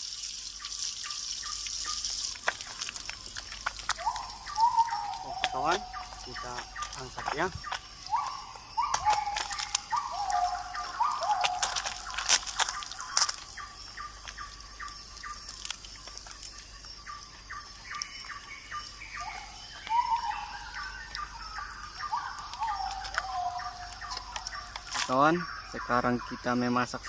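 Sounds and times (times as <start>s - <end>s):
bird chirps: 0.5s - 27.0s.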